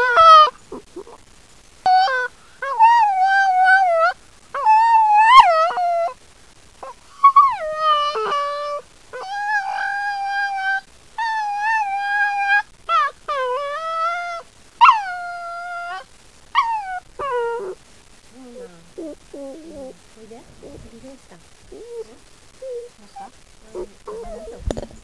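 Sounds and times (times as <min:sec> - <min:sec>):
puppy howling and whining: 0:00.0 - 0:01.1, 0:01.9 - 0:06.2, 0:06.8 - 0:17.8, 0:18.4 - 0:20.0, 0:21.7 - 0:24.7.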